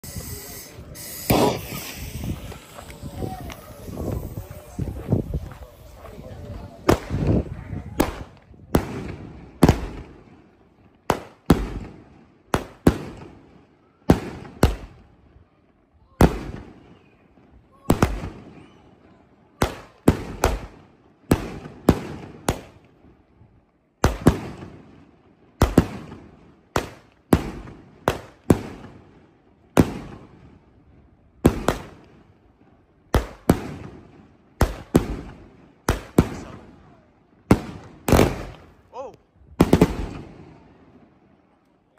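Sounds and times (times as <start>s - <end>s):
firework bangs: 0.0s - 15.1s, 16.2s - 19.0s, 19.6s - 22.9s, 24.0s - 30.6s, 31.4s - 32.3s, 33.1s - 36.8s, 37.4s - 38.8s, 39.6s - 41.1s.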